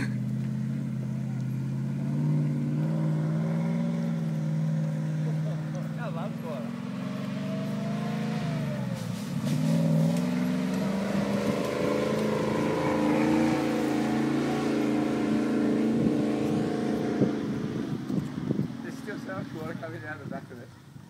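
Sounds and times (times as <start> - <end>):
car engine revving: 0.0 - 20.3.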